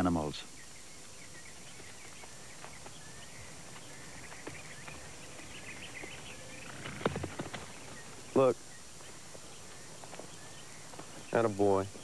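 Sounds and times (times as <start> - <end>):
faint bird chirps: 0.0 - 12.0
steady hiss: 0.0 - 12.0.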